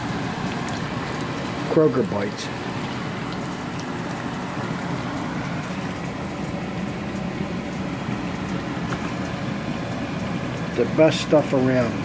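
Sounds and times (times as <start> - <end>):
food sizzling in frying oil: 0.0 - 12.0
low steady hum: 0.0 - 12.0.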